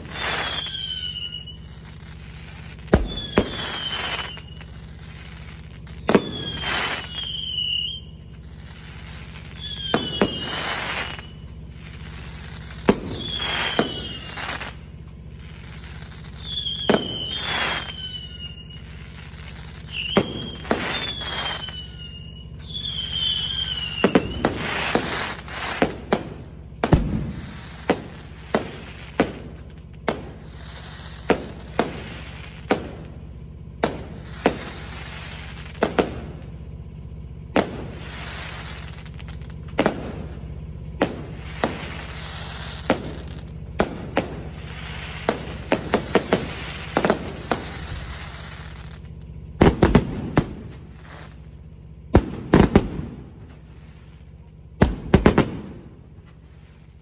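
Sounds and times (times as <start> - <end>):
fireworks bangs: 0.0 - 57.0
rapid fireworks bangs: 0.0 - 57.0.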